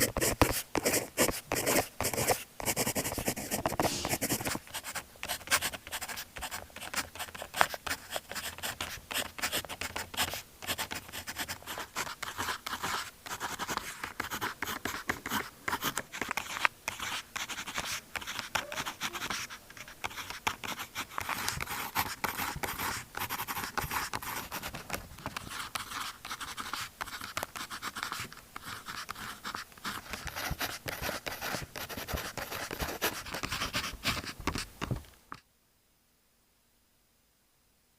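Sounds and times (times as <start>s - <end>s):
pen scratching on paper: 0.0s - 34.7s.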